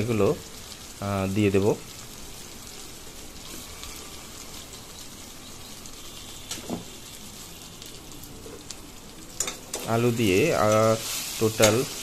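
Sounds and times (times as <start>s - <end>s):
oil and paste sizzling: 0.0s - 12.0s.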